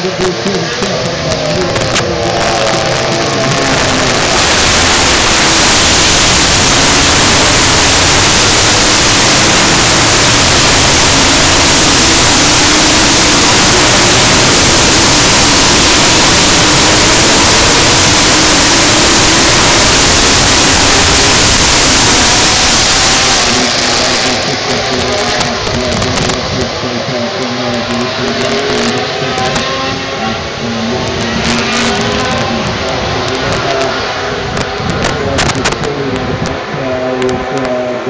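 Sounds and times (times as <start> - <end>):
racing motorcycles roaring: 0.0 - 38.0.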